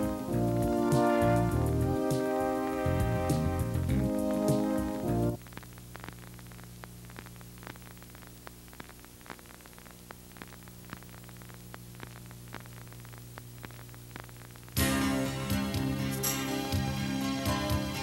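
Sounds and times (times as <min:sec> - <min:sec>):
faint mains hum: 0:00.0 - 0:18.0.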